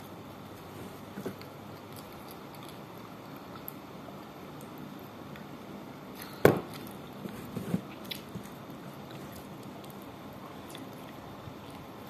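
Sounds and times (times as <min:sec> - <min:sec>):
squishy food eating sounds: 0:00.6 - 0:12.0.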